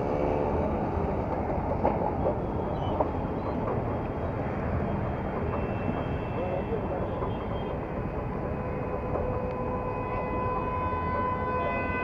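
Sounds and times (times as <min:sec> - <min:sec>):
sharp train clicks: 0:00.0 - 0:11.3
train rumbling and rattling: 0:00.0 - 0:12.0.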